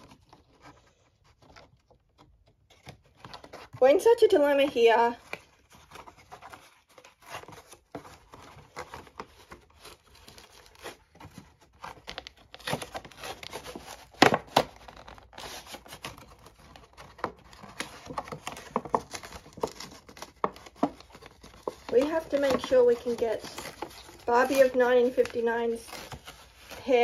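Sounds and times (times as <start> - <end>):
cardboard tearing: 0.0 - 27.0
plastic packaging crinkling: 0.0 - 27.0.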